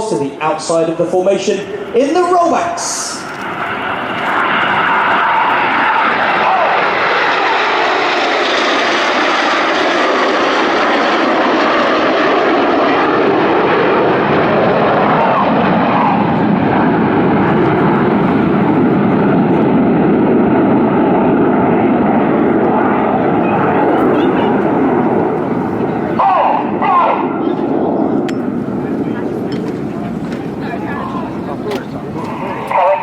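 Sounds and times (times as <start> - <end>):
jets flying over: 0.0 - 33.0.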